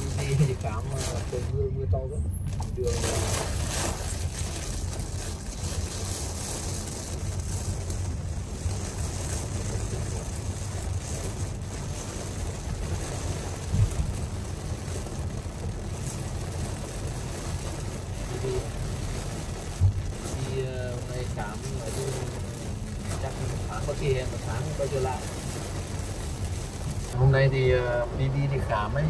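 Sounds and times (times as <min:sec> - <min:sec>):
heavy rain on car windshield: 0:00.0 - 0:29.0
road rumble and tyre hiss: 0:00.0 - 0:29.0.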